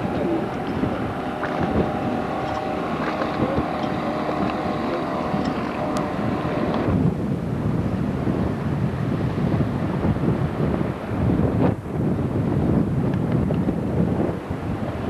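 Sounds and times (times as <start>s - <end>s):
motorboat engine running: 0.0s - 15.0s
wind buffeting microphone: 0.0s - 15.0s.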